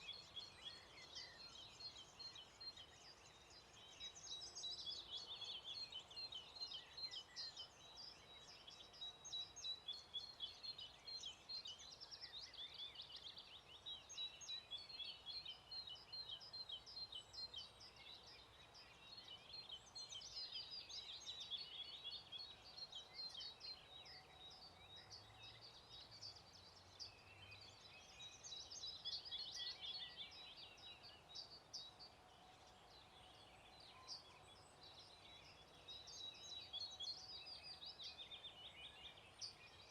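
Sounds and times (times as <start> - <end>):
faint songbird chorus: 0.0 - 39.9.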